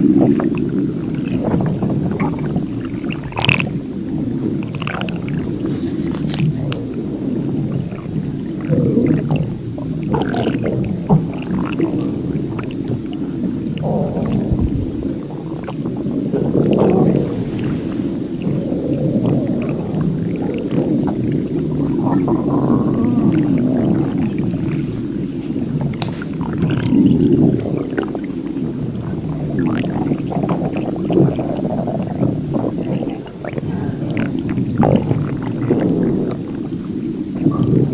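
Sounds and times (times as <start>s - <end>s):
stomach growling and gurgling: 0.0s - 37.9s.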